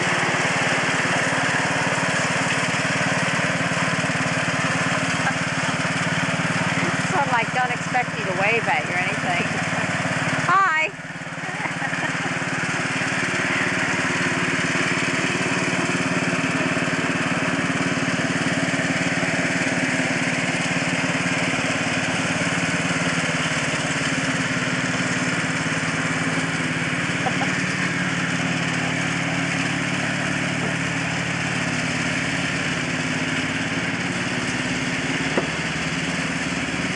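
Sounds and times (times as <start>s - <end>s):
garden tractor engine running: 0.0s - 36.9s.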